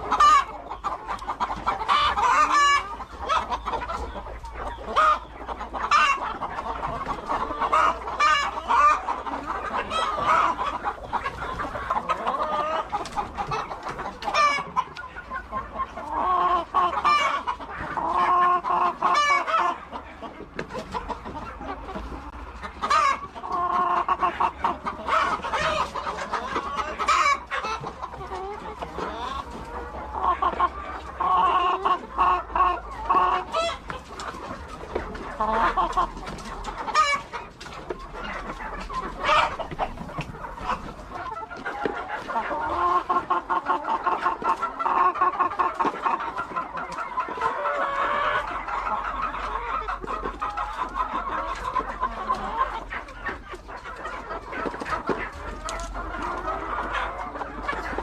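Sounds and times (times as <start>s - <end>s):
hens clucking: 0.0s - 58.0s.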